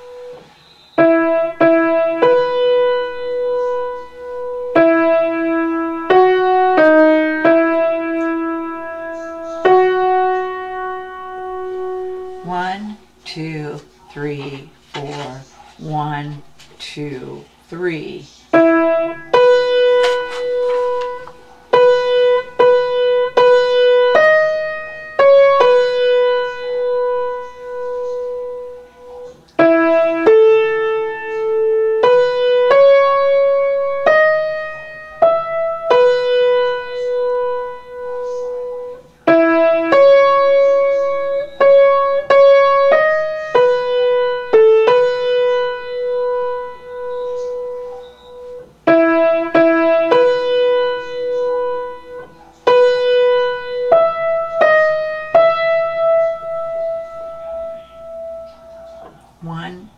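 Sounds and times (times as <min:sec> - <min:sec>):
slow piano melody: 0:00.0 - 0:14.6, 0:18.5 - 0:59.9.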